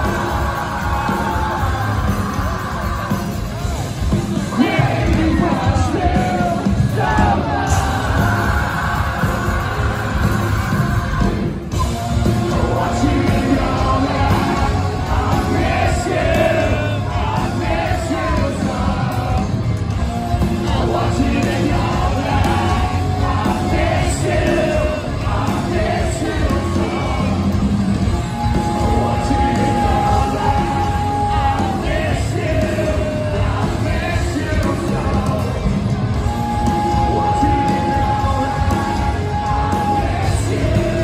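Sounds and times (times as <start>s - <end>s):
lead vocal singing: 0.0s - 41.0s
live rock band playing: 0.0s - 41.0s.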